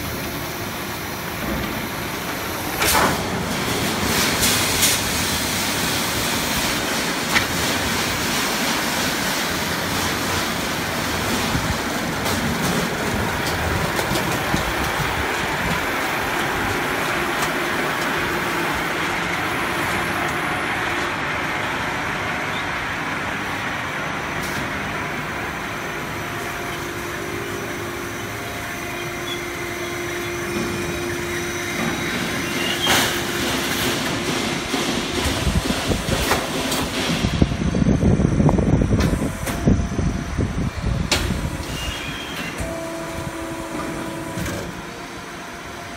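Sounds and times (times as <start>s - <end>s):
steady machine noise: 0.0s - 45.9s.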